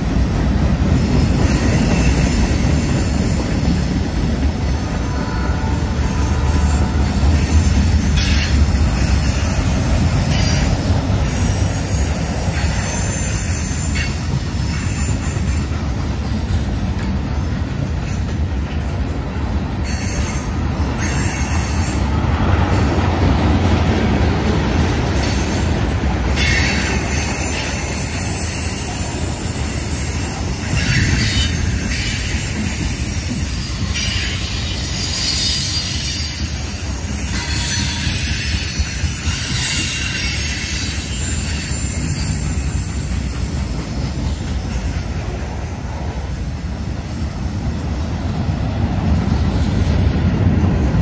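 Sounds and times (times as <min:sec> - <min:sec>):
train wheel squeal: 0:00.0 - 0:23.8, 0:24.4 - 0:51.0
steel wheels rumbling on rail: 0:00.0 - 0:51.0.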